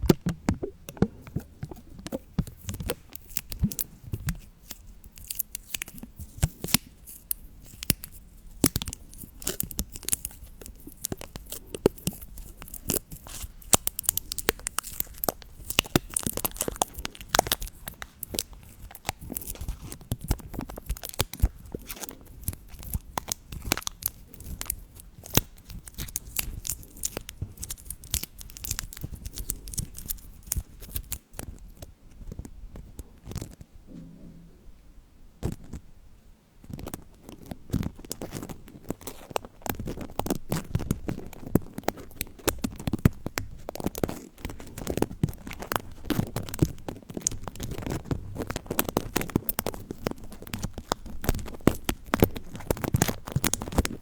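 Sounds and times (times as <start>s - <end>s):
dense crackling and tearing: 0.0s - 34.0s, 36.6s - 54.0s.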